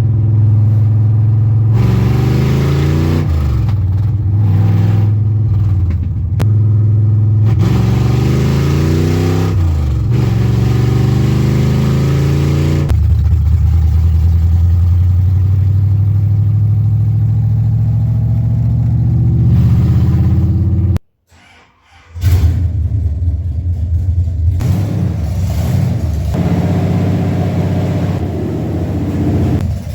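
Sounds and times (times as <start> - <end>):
car engine revving: 0.0 - 21.0, 22.3 - 29.9.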